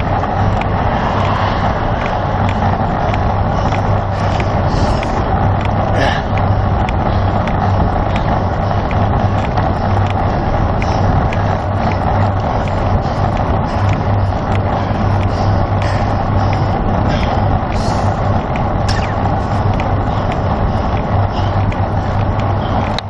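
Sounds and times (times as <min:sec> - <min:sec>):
faint regular ticking: 0:00.0 - 0:23.0
low hum: 0:00.0 - 0:23.0
wind rushing on microphone: 0:00.0 - 0:23.0.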